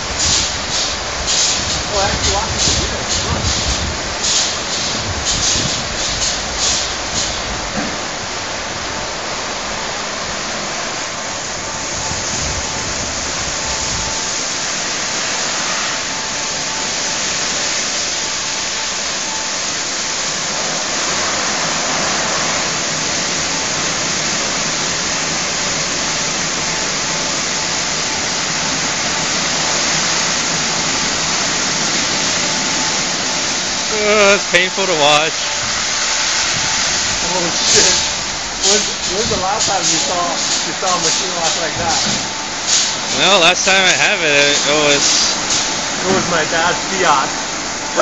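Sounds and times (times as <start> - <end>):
water jets rushing hiss: 0.0 - 48.0.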